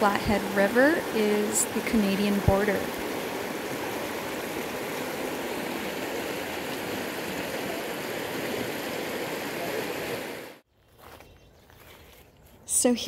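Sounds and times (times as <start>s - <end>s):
river rushing over rocks: 0.1s - 10.6s.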